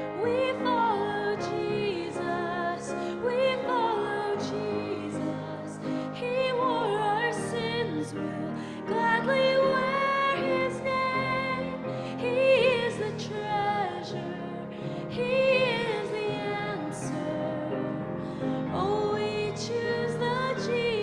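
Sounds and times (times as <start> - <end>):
voices singing: 0.0 - 21.0.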